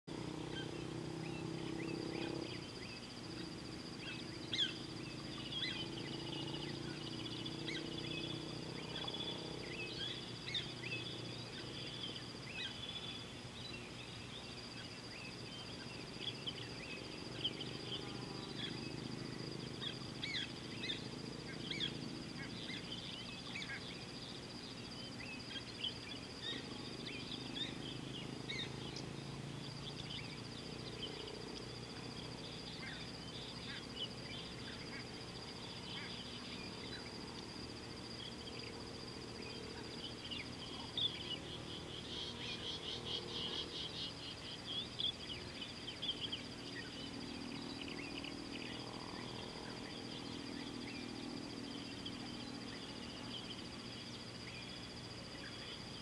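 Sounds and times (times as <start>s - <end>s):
low background hum: 0.1s - 56.0s
steady high-pitched buzz: 0.1s - 56.0s.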